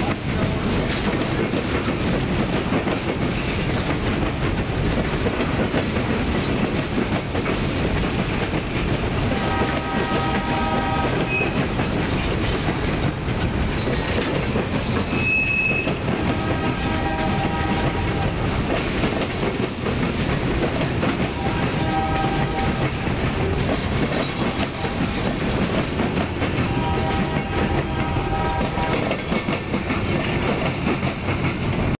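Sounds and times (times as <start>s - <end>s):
freight train wheels clattering: 0.0s - 31.9s.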